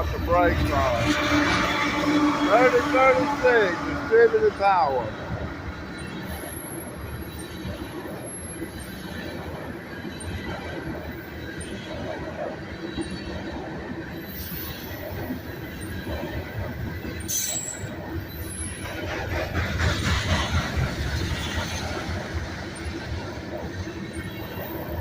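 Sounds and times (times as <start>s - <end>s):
freight train wheels rumbling on rail: 0.0s - 25.0s.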